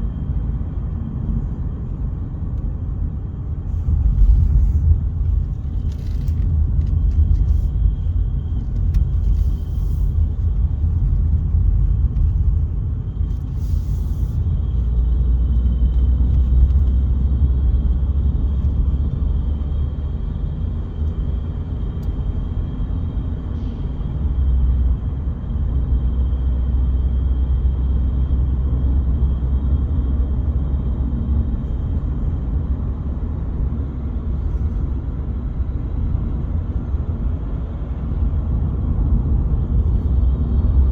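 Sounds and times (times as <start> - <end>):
engine and road rumble: 0.0 - 40.9.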